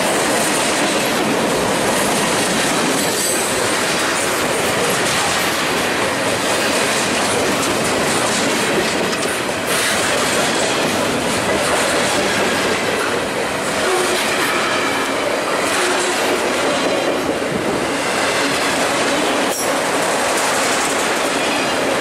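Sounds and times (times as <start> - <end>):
train wheels rumbling on rail: 0.0 - 22.0
wheels clacking over rail joints: 0.0 - 22.0.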